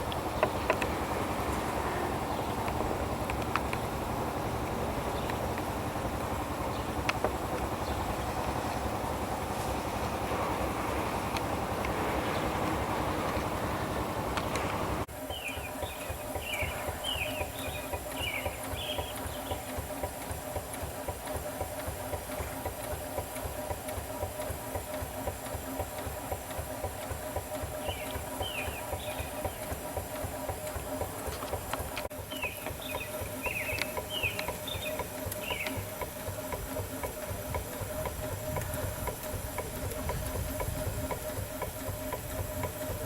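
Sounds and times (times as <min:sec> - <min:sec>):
steam traction engine running: 0:00.0 - 0:43.0.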